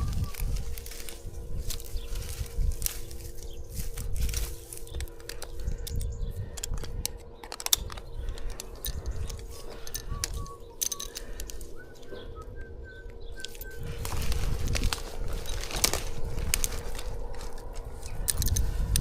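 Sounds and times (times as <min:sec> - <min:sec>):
low rumble: 0:00.0 - 0:19.0
metallic clicks of climbing gear: 0:00.0 - 0:19.0
rope rustling: 0:00.0 - 0:19.0.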